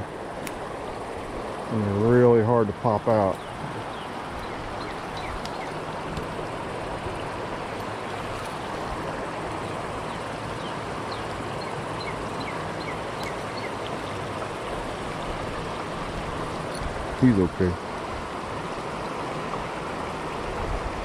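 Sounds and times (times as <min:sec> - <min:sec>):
creek water running over rocks: 0:00.0 - 0:21.0.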